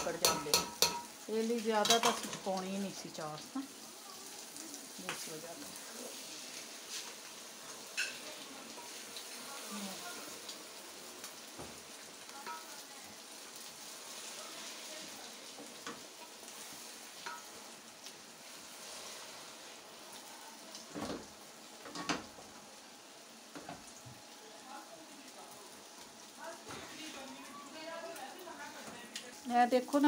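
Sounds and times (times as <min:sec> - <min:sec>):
rice sizzling in a pot: 0:00.0 - 0:30.0.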